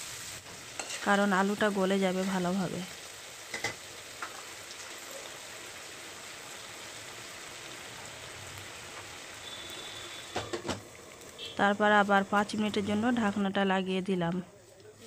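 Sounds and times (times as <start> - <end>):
potatoes sizzling in pan: 0.0 - 14.4.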